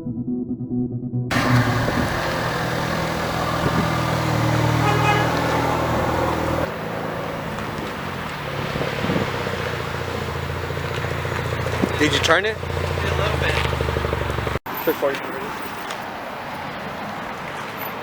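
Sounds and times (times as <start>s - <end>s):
car engine hum: 1.3s - 18.0s
road noise: 1.3s - 18.0s.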